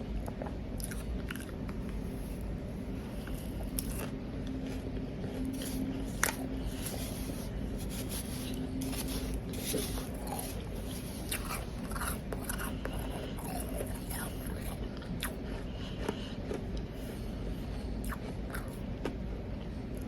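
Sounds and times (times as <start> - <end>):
chewing ice crunches: 0.3 - 2.0, 3.1 - 19.2.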